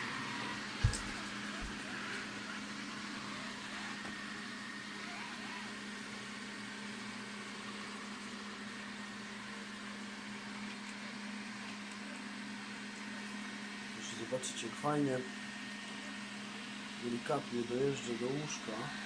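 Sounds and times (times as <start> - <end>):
robot vacuum humming and hissing: 0.0 - 19.0.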